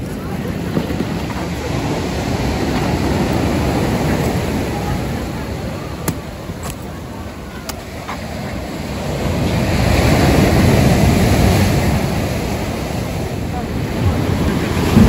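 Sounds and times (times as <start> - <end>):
surf breaking on a beach: 0.0 - 15.0.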